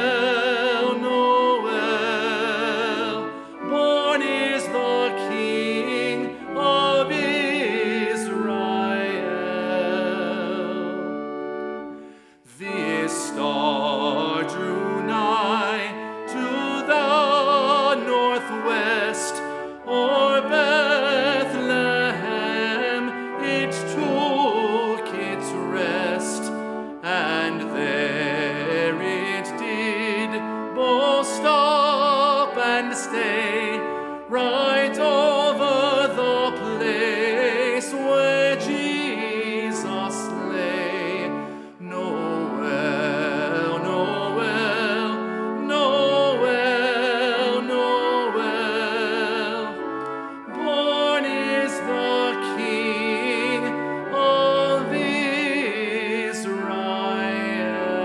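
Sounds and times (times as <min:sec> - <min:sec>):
man singing a hymn: 0:00.0 - 0:58.0
sustained accompaniment chords: 0:00.0 - 0:58.0.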